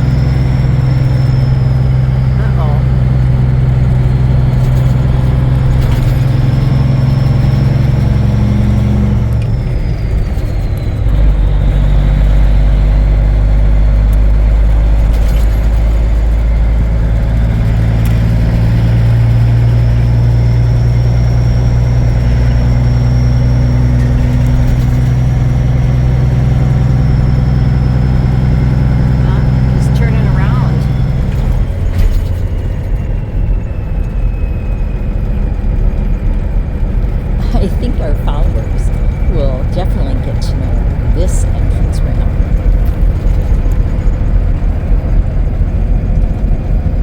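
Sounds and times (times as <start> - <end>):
truck diesel engine running: 0.0 - 47.0.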